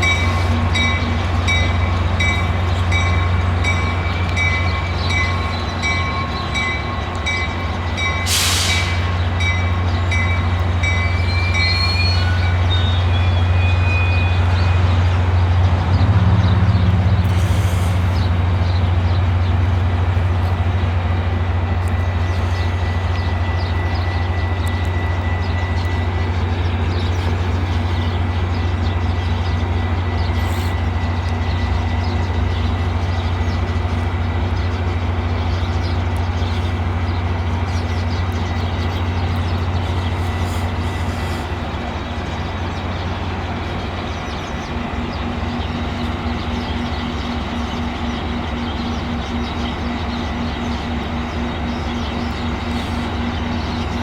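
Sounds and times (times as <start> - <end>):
diesel locomotive droning: 0.0 - 54.0.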